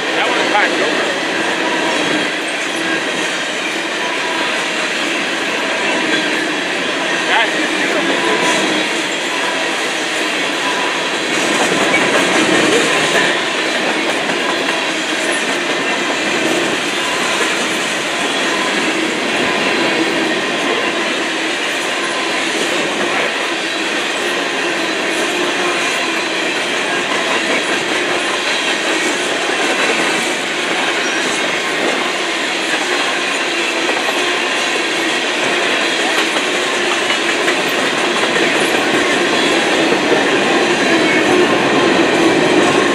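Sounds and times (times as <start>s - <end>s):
freight train wheels clattering: 0.0s - 42.9s.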